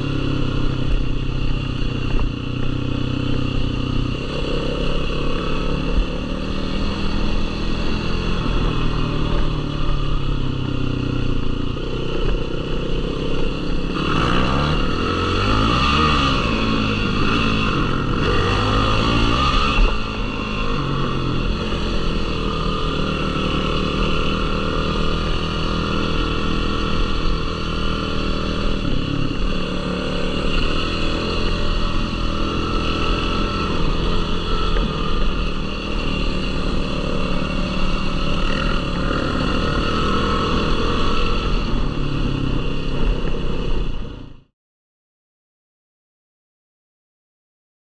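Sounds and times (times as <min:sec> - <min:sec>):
quad engine revving: 0:00.0 - 0:44.4.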